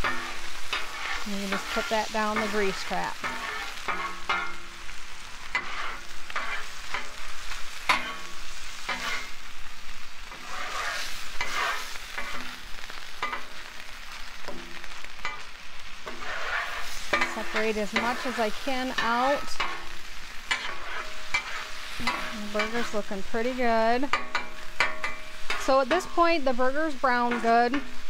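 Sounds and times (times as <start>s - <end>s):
meat sizzling: 0.0s - 28.0s
metal spatula scraping griddle: 0.0s - 28.0s.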